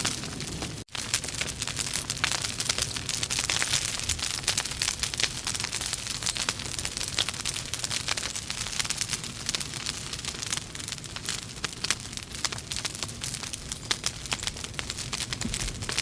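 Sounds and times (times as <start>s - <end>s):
wood logs crackling in fireplace: 0.0s - 16.0s.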